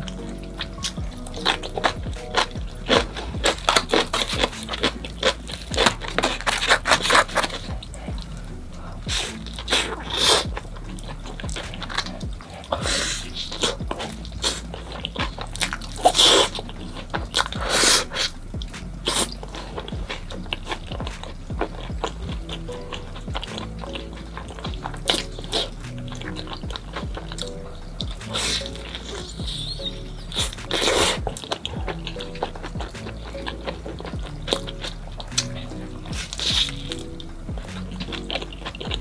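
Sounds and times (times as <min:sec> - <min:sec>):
person chewing crunchy pizza crust: 0:00.0 - 0:39.0.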